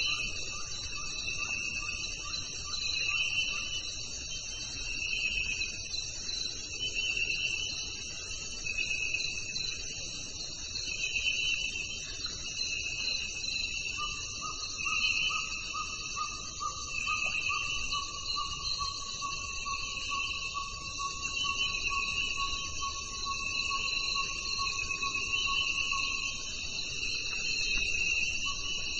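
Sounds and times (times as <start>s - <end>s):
insects trilling: 0.0s - 28.9s
lower pulsing insect call: 0.0s - 28.9s.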